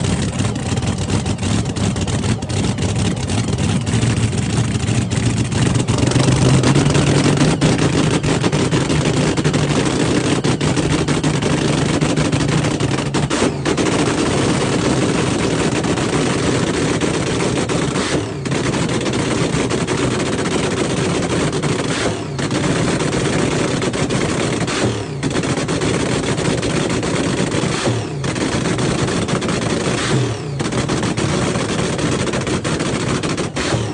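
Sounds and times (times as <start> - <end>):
racing car engine crackling: 0.0 - 33.9.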